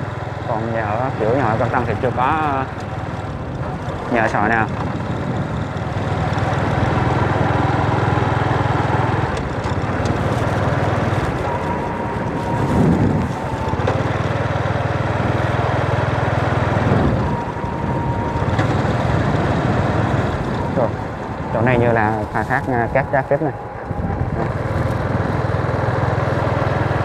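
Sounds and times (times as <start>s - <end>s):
motorbike engine running: 0.0s - 27.0s
road and wind noise: 0.0s - 27.0s.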